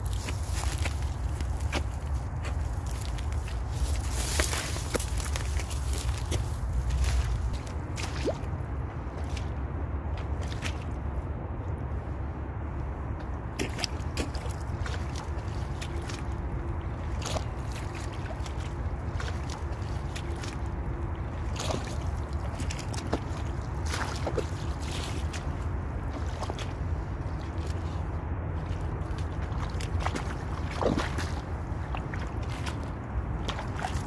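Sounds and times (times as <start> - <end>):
rubber boots squelching in mud: 0.0 - 11.9, 13.1 - 34.0
steady low rumble: 0.0 - 34.0.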